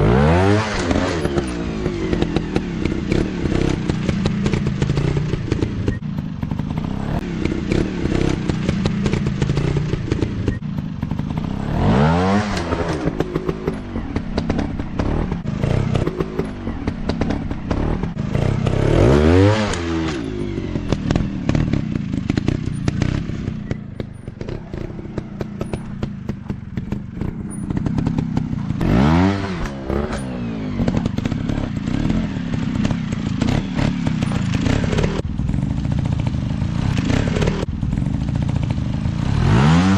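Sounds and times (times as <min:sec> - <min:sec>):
bike engine revving: 0:00.0 - 0:39.9
motocross bike engines: 0:00.0 - 0:39.9.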